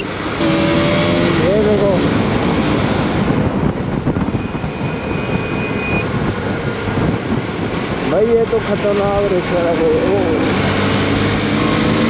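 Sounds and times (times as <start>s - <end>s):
wind rush: 0.1s - 12.0s.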